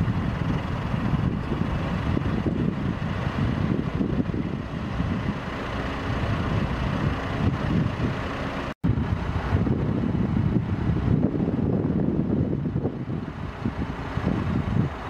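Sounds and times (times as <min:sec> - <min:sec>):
vehicle engine rumbling: 0:00.0 - 0:15.0
wind buffeting microphone: 0:00.0 - 0:15.0.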